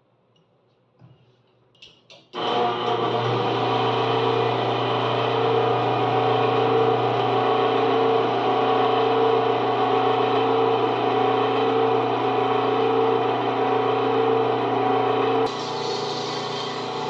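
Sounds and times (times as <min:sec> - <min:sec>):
lathe motor humming: 0:02.4 - 0:17.0.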